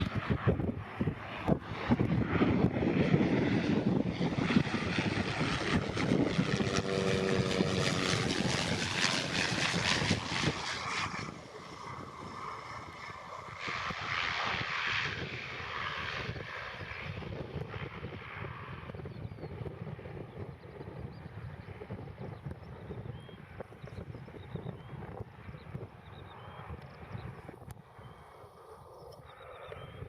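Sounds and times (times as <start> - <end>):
propeller aircraft engine running: 0.0 - 30.0
wind buffeting microphone: 0.0 - 30.0.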